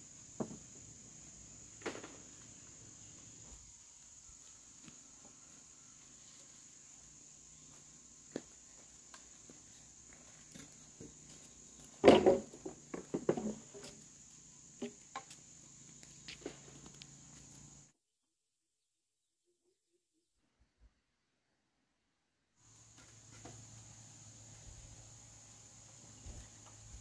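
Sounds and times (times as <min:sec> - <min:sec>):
crickets droning: 0:00.0 - 0:17.9, 0:22.6 - 0:27.0.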